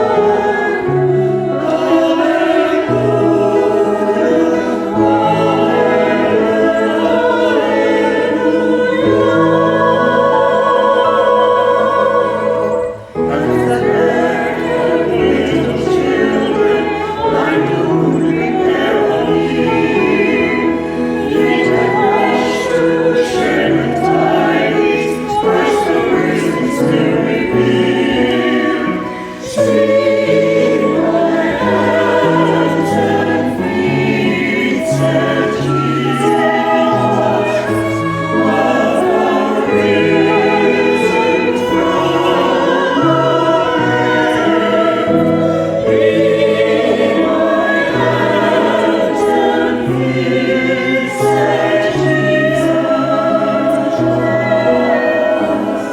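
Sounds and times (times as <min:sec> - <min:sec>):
choir singing: 0:00.0 - 0:55.9
instrumental accompaniment: 0:00.0 - 0:55.9.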